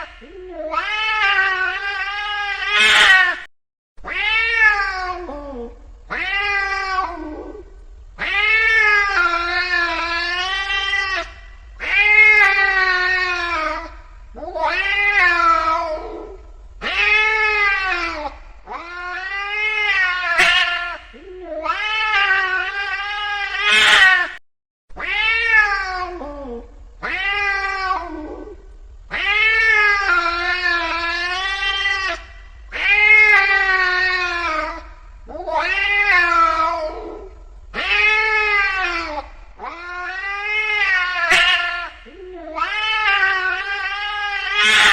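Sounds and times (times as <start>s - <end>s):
angry cat yowling: 0.0s - 24.4s, 25.0s - 44.9s.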